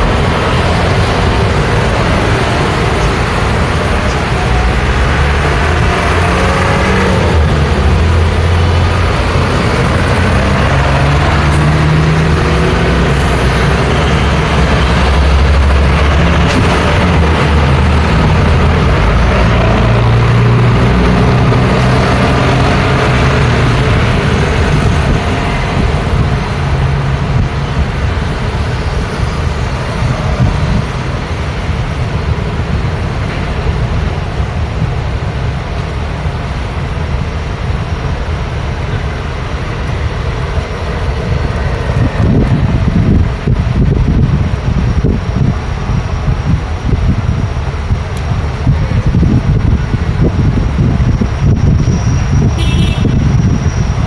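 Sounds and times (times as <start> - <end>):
road traffic with heavy vehicles: 0.0 - 54.0.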